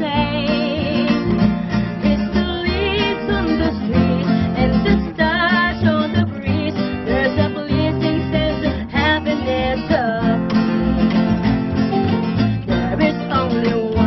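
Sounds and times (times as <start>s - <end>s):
woman singing with vibrato: 0.0s - 1.4s, 2.0s - 11.3s, 12.6s - 14.0s
plucked upright bass: 0.0s - 14.0s
strummed acoustic guitars: 0.0s - 14.0s.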